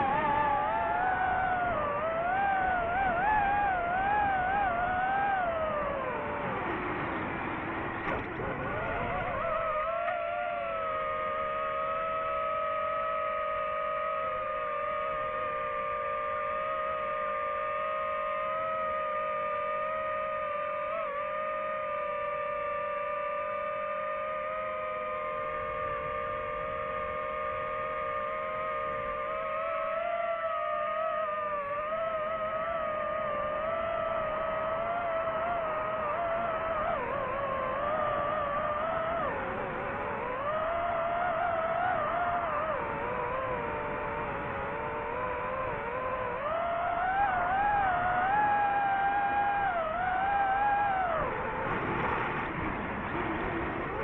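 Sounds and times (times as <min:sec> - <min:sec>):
drone propellers whining: 0:00.0 - 0:54.0.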